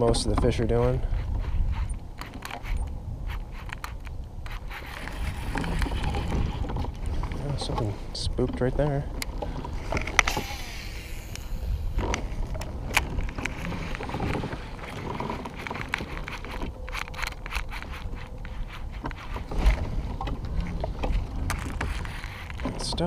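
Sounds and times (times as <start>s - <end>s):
fishing gear clicks and knocks: 0.0s - 23.0s
steady low rumble: 0.0s - 23.0s.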